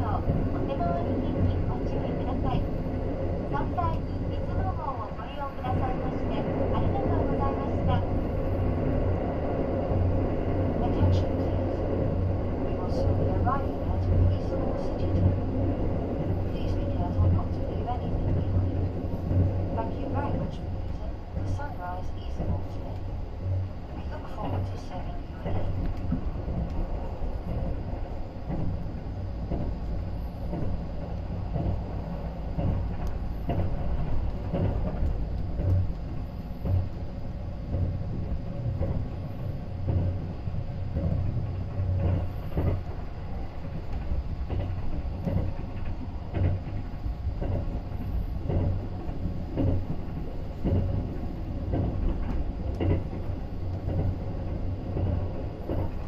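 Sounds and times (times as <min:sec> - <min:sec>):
train running rumble: 0:00.0 - 0:56.0
wheels clacking on rails: 0:00.0 - 0:56.0.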